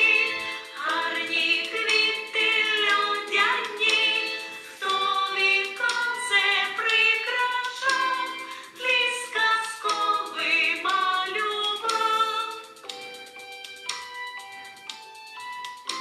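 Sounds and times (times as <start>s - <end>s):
person singing: 0.0s - 13.0s
children's song accompaniment: 0.0s - 16.0s.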